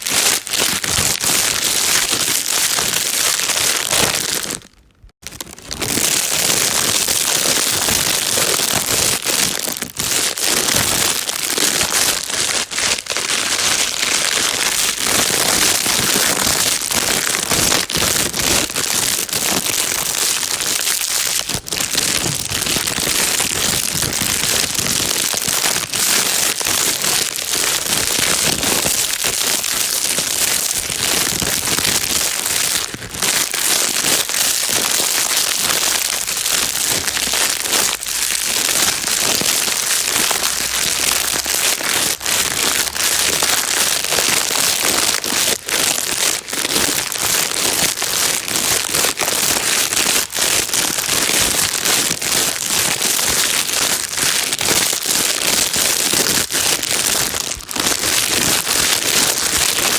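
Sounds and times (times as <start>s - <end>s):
plastic bag crinkling: 0.0s - 59.9s.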